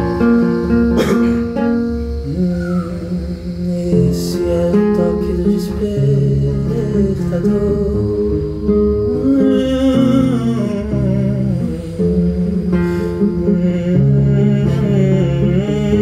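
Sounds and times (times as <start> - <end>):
classical guitar fingerstyle: 0.0 - 16.0
person humming wordless melody: 0.0 - 16.0.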